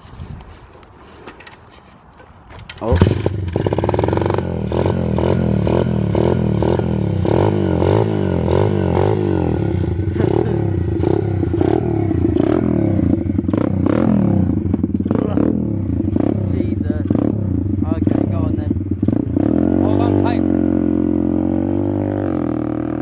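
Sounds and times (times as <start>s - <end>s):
pit bike engine revving: 2.8s - 23.0s.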